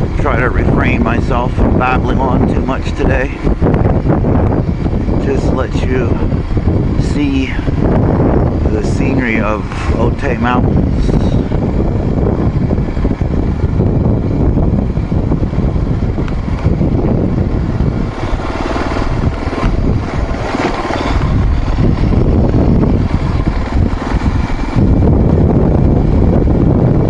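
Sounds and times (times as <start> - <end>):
rumble of the ride: 0.0 - 27.0
vehicle engine running: 0.0 - 27.0.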